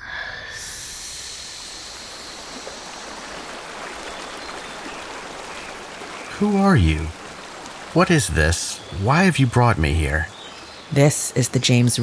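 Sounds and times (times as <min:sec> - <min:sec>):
river water rushing: 0:01.1 - 0:12.0.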